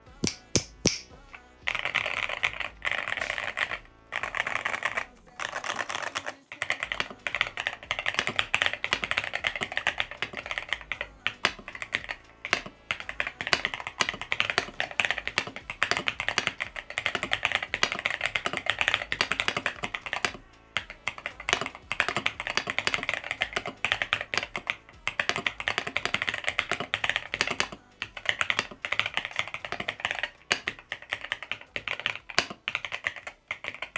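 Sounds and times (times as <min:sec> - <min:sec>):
fast typing on keyboard: 0:01.7 - 0:33.9.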